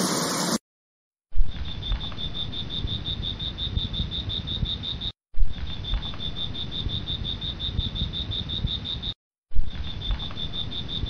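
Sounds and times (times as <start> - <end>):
insect chirping: 1.6 - 11.0.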